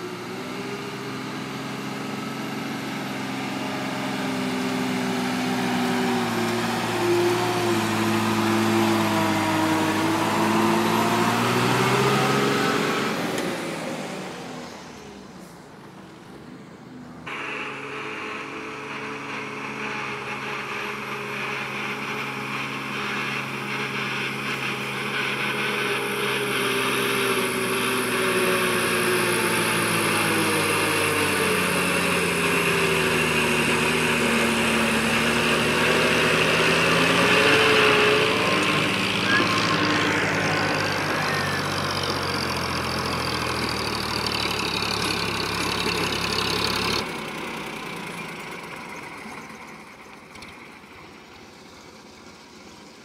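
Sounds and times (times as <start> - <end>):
diesel truck engines running: 0.0 - 53.0.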